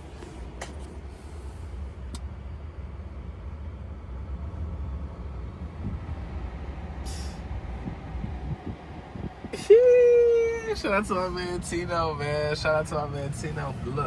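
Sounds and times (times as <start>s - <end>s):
road and tyre rumble: 0.0s - 14.0s.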